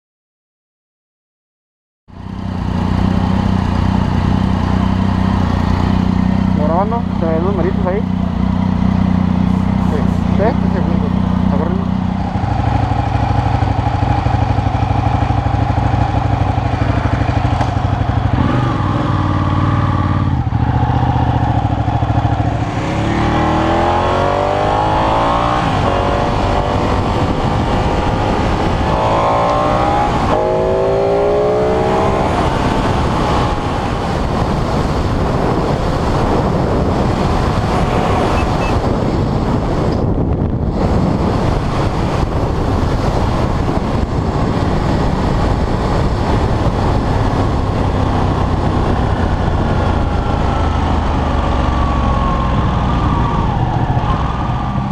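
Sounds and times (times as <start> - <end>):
motorcycle engine revving: 2.1 - 54.9
wind noise: 4.1 - 54.9.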